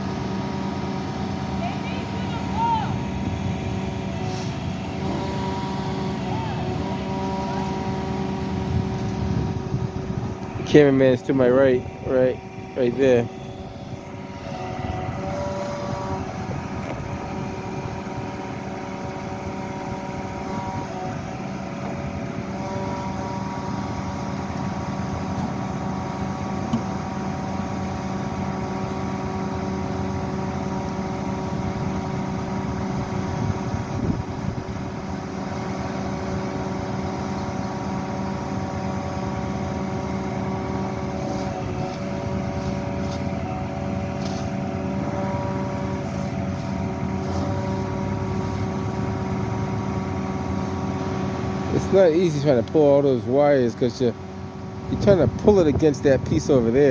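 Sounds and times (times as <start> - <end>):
truck engine droning: 0.0 - 56.9.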